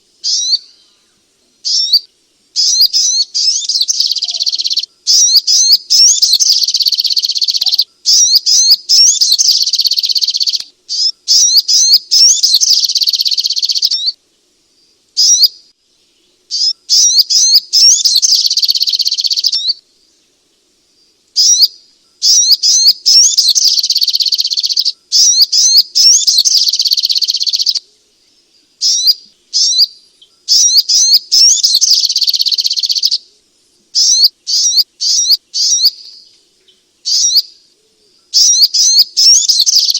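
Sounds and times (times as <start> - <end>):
bird twittering: 0.0 - 14.2, 15.2 - 15.6, 16.5 - 19.8, 21.4 - 27.9, 28.8 - 33.3, 34.0 - 39.9.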